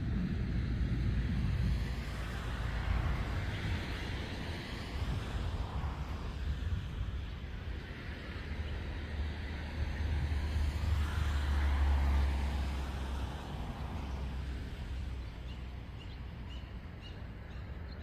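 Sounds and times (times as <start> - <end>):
road vehicle passing: 0.0 - 18.0.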